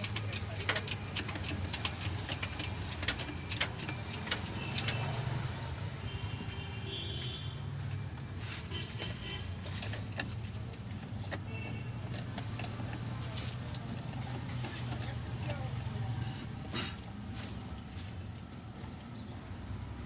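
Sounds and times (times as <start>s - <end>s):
sharp engine clicks: 0.0s - 6.3s, 6.9s - 19.9s
diesel engine humming: 0.0s - 20.0s.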